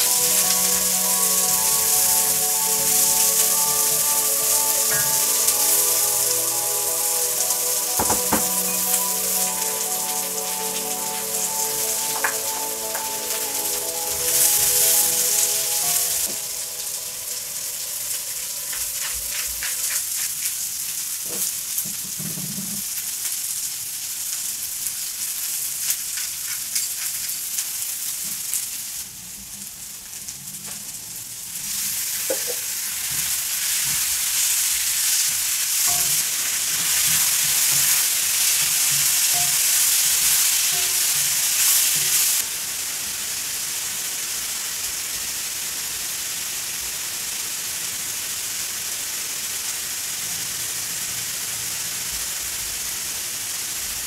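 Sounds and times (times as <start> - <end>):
vegetables sizzling in a wok: 0.0 - 22.1, 30.8 - 54.0.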